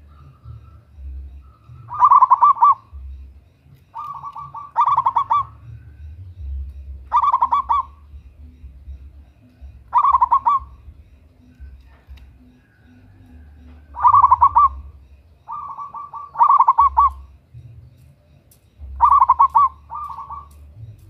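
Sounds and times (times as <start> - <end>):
dove cooing: 0.0 - 18.0, 18.8 - 21.0.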